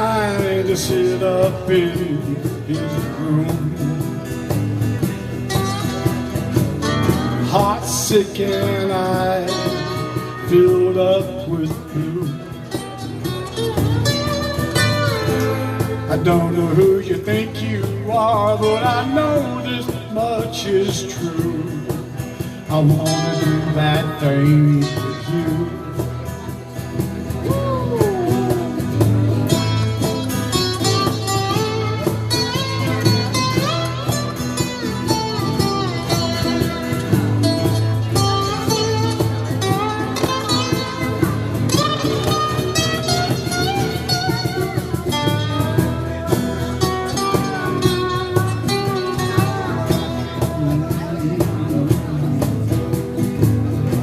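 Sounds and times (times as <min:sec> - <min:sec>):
bass line: 0:00.0 - 0:54.0
drum beat: 0:00.0 - 0:54.0
lead guitar bending notes: 0:00.0 - 0:54.0.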